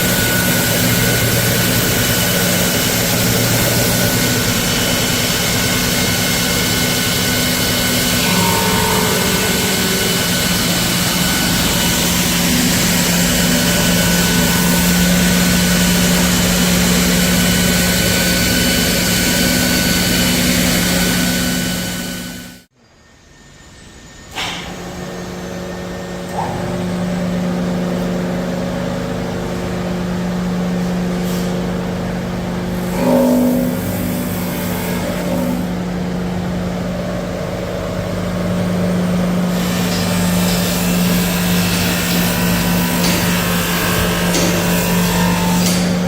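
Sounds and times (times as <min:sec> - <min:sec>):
electric motors humming: 0:00.0 - 0:22.6, 0:24.3 - 0:46.0.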